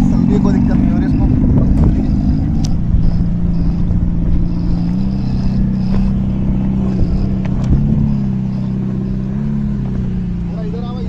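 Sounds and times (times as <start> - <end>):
electric motorcycle hum: 0.0 - 11.0
low rumble over dirt: 0.0 - 11.0.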